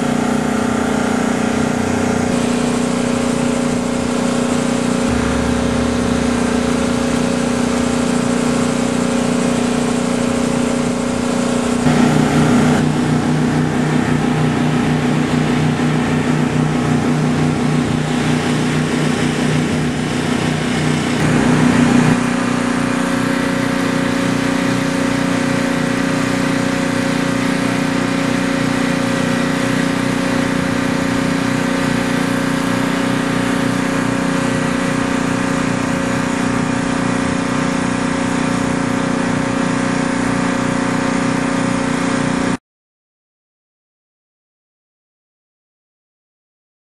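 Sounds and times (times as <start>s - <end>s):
small engine running: 0.0s - 42.6s.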